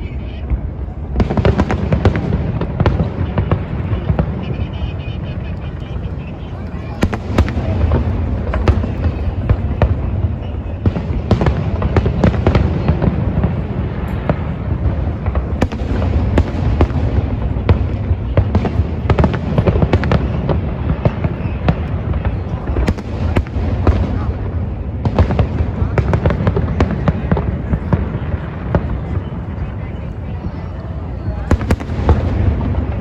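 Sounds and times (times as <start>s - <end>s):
fireworks booming: 0.0s - 33.0s
fireworks cracks and bangs: 0.0s - 33.0s.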